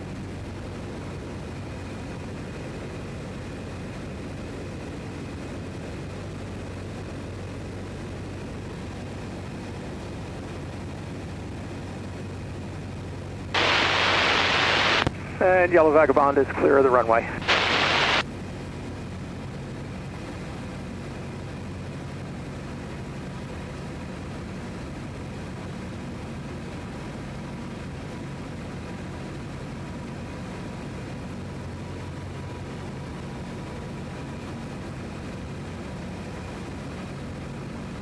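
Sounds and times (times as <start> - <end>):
small aircraft engine running: 0.0 - 38.0.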